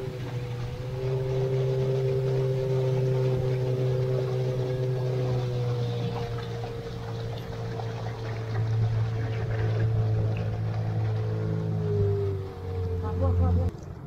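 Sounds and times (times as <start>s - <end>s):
boat motor running: 0.0s - 14.0s
water rushing along hull: 0.0s - 14.0s.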